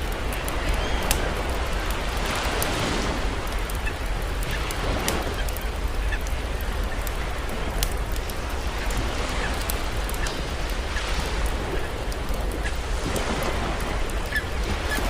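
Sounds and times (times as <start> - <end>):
campfire crackling and popping: 0.0 - 15.0
ocean surf: 0.0 - 15.0.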